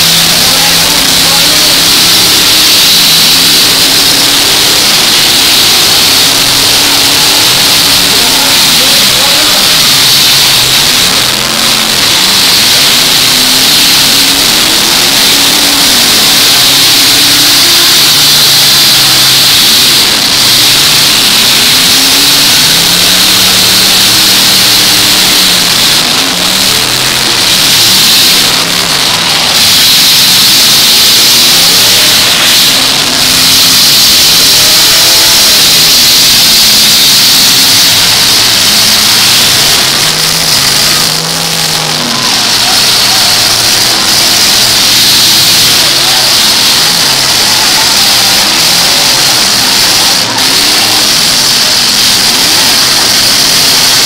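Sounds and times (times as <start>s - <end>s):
truck engines revving: 0.0s - 54.0s.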